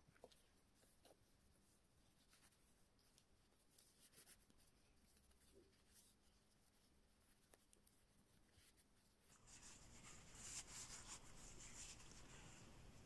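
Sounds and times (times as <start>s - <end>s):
fingers rubbing crocheted fabric: 0.1s - 12.8s.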